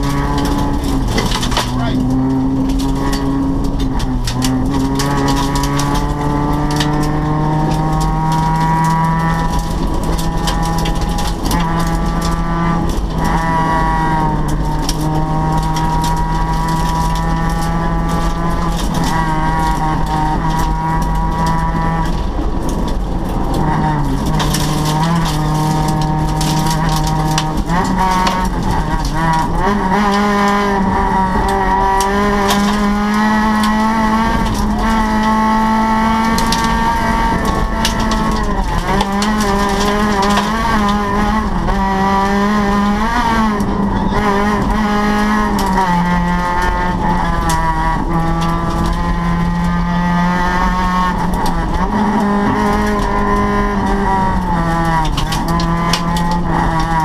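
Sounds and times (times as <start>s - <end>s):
gravel clicking against car: 0.0s - 57.0s
rally car engine at high revs: 0.0s - 57.0s.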